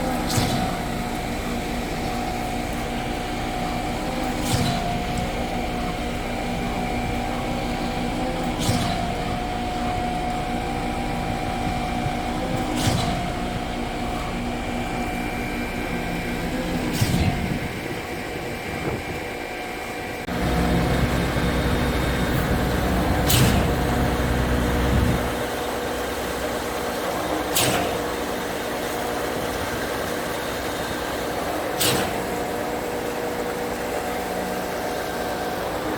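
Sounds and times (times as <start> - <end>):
concrete pump engine drone: 0.0 - 35.9.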